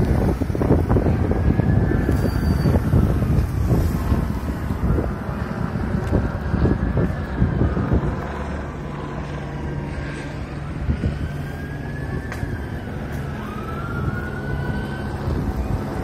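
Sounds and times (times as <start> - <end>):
low engine hum: 0.0 - 16.0
police siren wailing: 0.0 - 16.0
wind buffeting microphone: 0.0 - 16.0.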